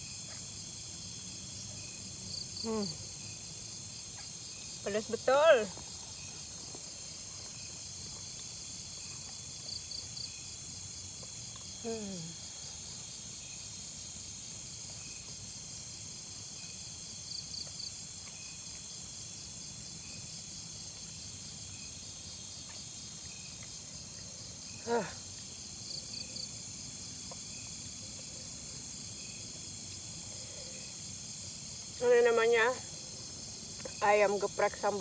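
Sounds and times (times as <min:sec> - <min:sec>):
crickets and insects trilling: 0:00.0 - 0:35.0.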